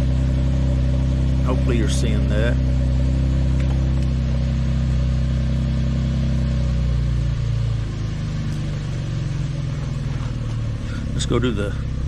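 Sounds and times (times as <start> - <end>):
car exhaust idling: 0.0 - 12.0.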